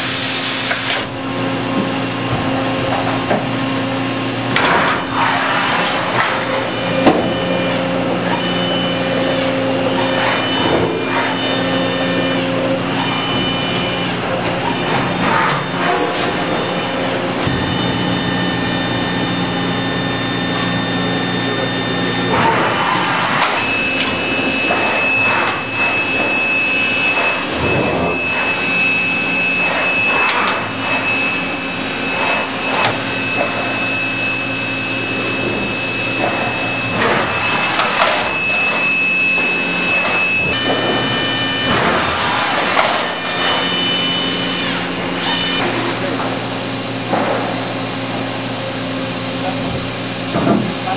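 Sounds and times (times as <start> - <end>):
high whine: 0.0 - 50.9
machine mechanical hum: 0.0 - 50.9.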